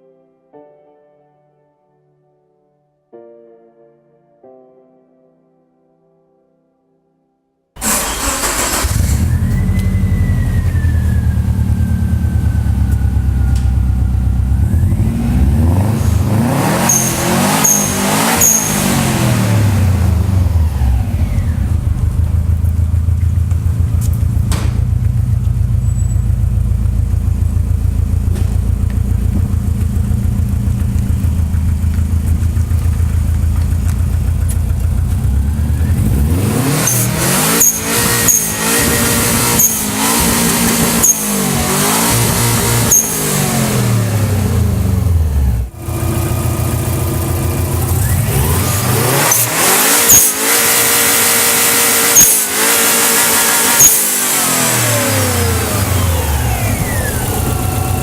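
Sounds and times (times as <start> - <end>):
car engine revving: 7.8 - 58.0.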